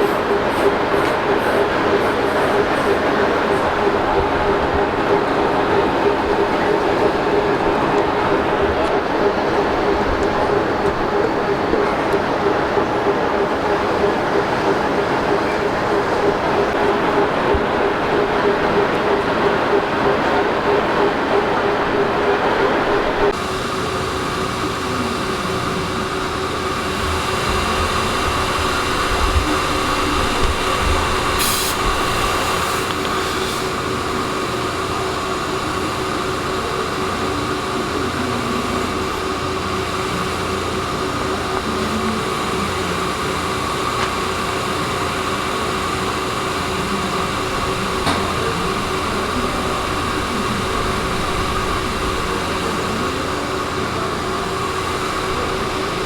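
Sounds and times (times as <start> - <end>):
machinery drone with whine: 0.0 - 56.0.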